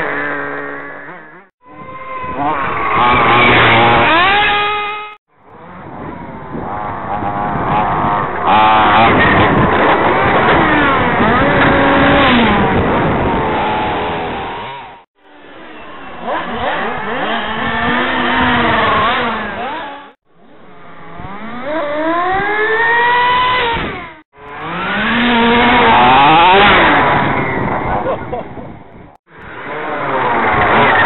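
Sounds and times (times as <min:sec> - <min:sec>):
model car engines revving: 0:00.0 - 0:28.1, 0:29.4 - 0:31.0.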